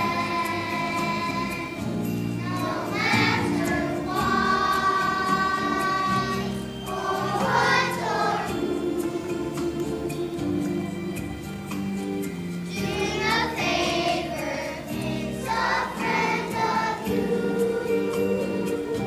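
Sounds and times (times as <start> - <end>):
children's choir singing: 0.0 - 11.8, 12.6 - 19.0
instrumental accompaniment: 0.0 - 19.0.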